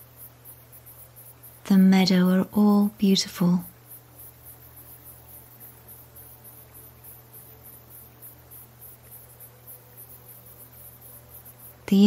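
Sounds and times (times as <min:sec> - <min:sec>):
crickets chirping: 0:00.0 - 0:12.0
low steady hum: 0:00.0 - 0:12.0.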